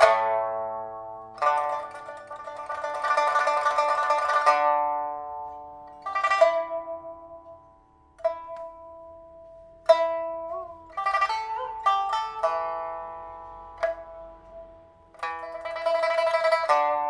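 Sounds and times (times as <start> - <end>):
pipa plucked notes: 0.0 - 17.0.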